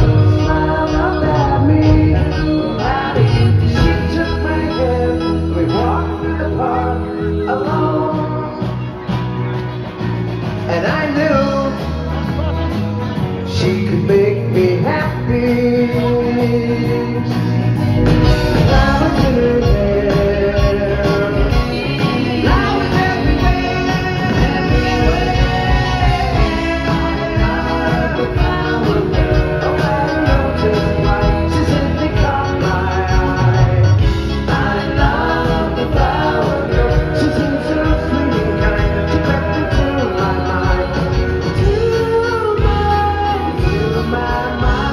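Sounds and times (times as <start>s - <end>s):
person singing: 0.0s - 9.5s, 10.6s - 44.9s
pop-rock band playing live: 0.0s - 44.9s.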